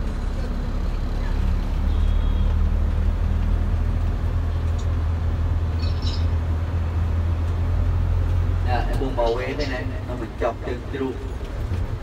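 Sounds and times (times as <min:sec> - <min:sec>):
faint street traffic: 0:00.0 - 0:12.0
vehicle engine rumbling: 0:00.0 - 0:12.0.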